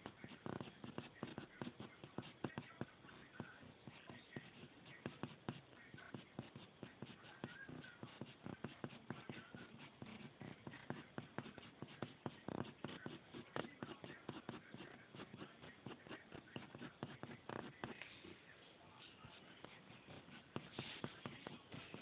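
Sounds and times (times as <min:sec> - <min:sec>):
pencil scratching on paper: 0:00.0 - 0:22.0.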